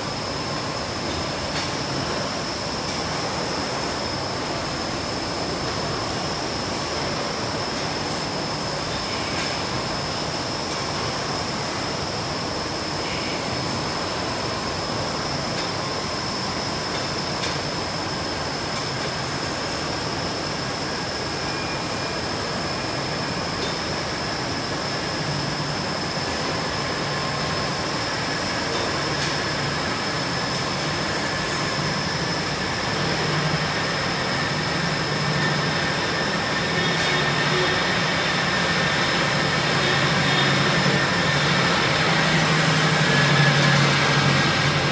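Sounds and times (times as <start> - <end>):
conveyor machinery whirring: 0.0 - 44.9
high-pitched whine: 0.0 - 44.9.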